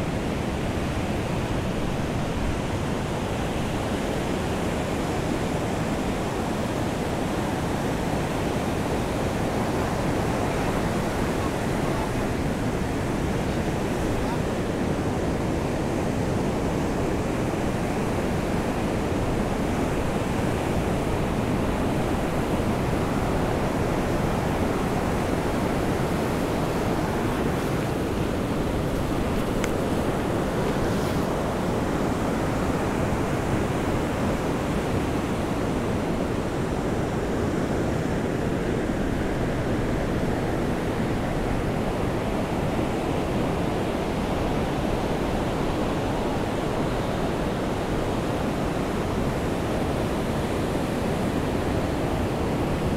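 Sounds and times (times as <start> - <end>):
ocean surf on a beach: 0.0 - 52.9
rain: 0.0 - 52.9
wind: 0.0 - 52.9.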